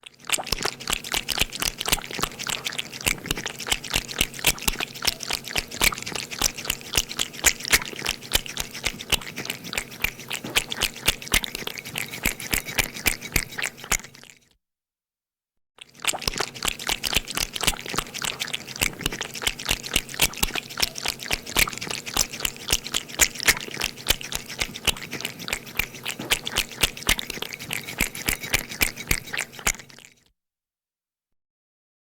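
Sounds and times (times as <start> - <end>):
cat lapping milk: 0.0 - 14.4, 15.8 - 30.2.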